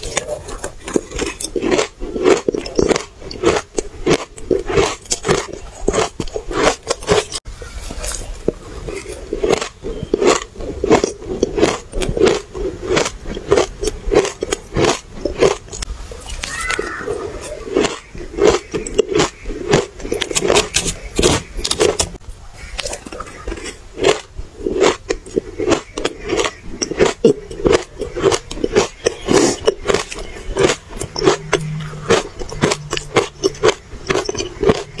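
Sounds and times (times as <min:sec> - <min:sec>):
chewing crunchy ice: 0:00.0 - 0:35.0.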